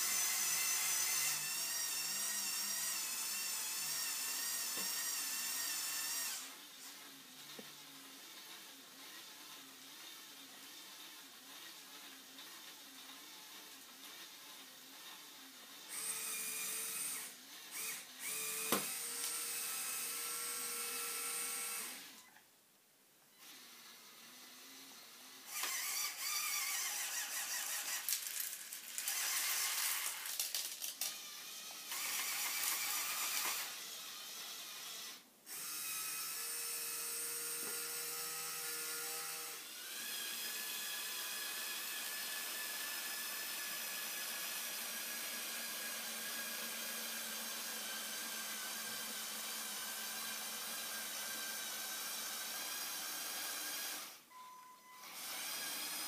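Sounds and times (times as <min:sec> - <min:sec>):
toy truck motor whine: 0:00.0 - 0:06.6, 0:08.2 - 0:22.4, 0:23.3 - 0:56.0
toy electric motors whining: 0:00.0 - 0:22.4, 0:23.3 - 0:54.3, 0:55.0 - 0:56.0.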